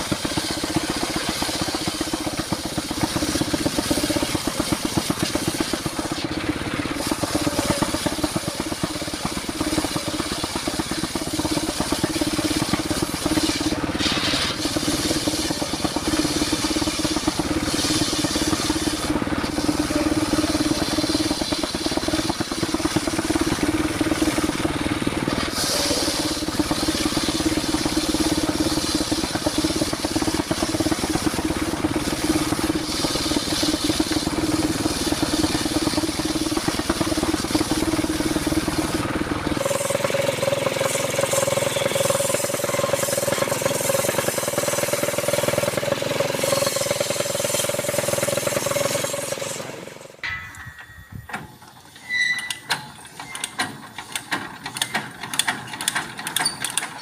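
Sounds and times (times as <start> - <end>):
circular saw cutting wood: 0.0 - 50.2.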